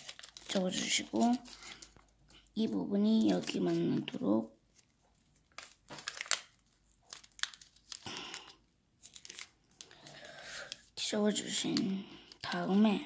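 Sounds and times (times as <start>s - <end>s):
paper rustling and crackling: 0.0s - 2.4s, 3.1s - 11.8s.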